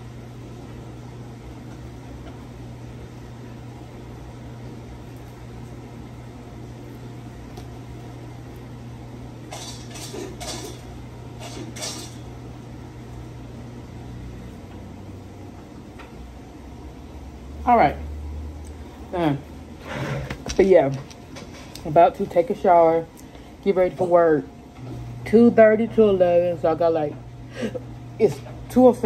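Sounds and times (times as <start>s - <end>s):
household appliance humming: 0.0s - 29.0s.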